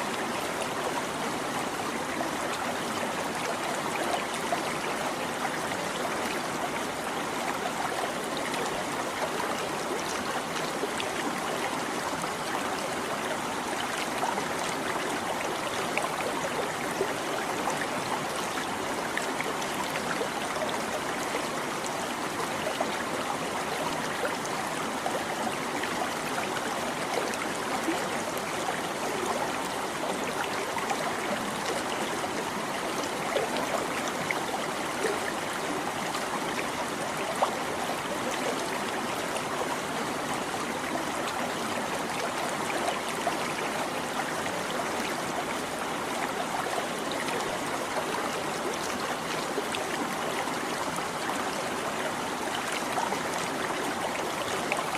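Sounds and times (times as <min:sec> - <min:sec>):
stream babbling over stones: 0:00.0 - 0:54.9.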